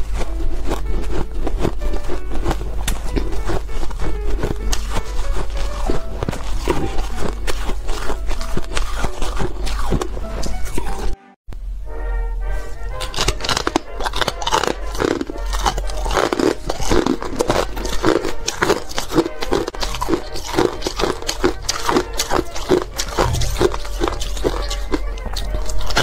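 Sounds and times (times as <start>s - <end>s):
ice being crunched and chewed: 0.0s - 11.2s, 13.0s - 26.0s.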